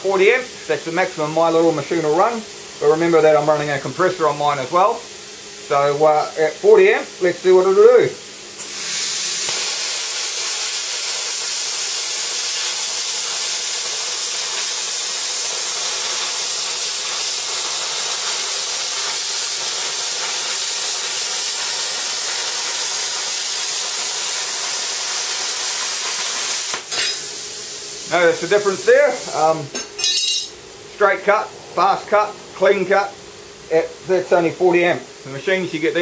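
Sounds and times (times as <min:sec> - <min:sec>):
plasma cutter hissing: 0:00.0 - 0:30.4.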